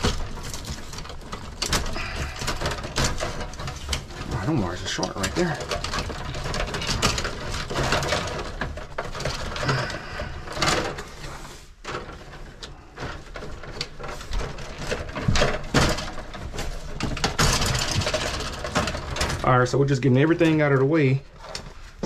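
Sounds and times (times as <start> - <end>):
wires rustling and scraping: 0.0 - 22.0.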